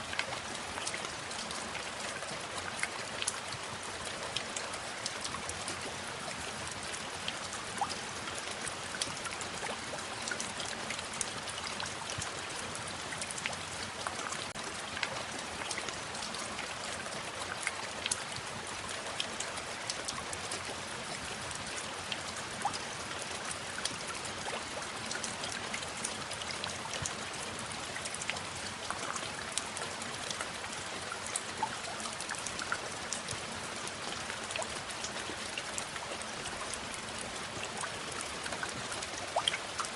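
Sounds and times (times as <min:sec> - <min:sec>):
steady rain falling: 0:00.0 - 0:39.9
raindrops ticking: 0:00.1 - 0:39.9.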